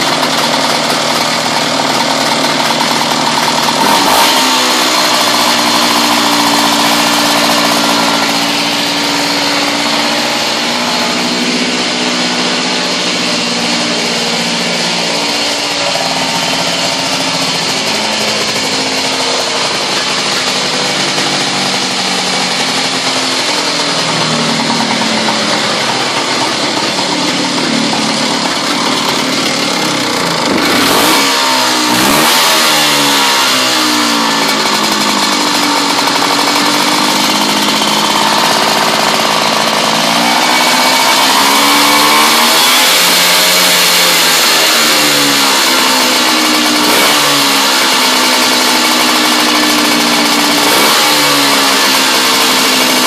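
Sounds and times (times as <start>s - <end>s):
engine running unevenly: 0.0s - 53.0s.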